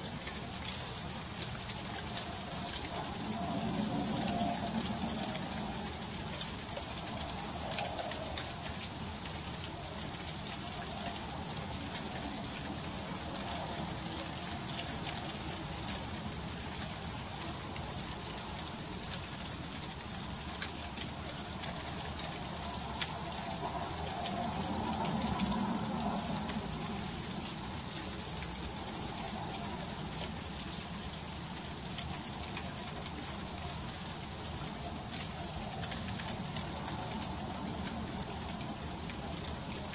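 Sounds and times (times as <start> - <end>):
freezing rain hissing and ticking: 0.0 - 39.9.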